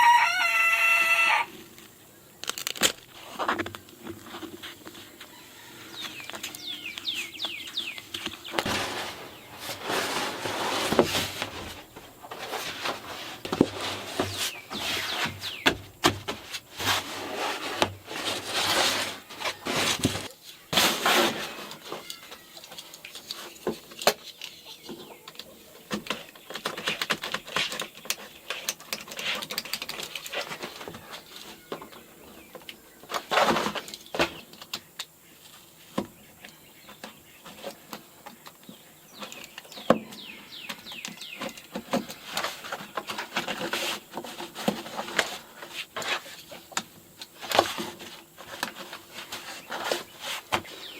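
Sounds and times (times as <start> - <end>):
scraping rubbing and knocking: 2.6 - 22.5, 25.8 - 34.4, 36.8 - 50.9.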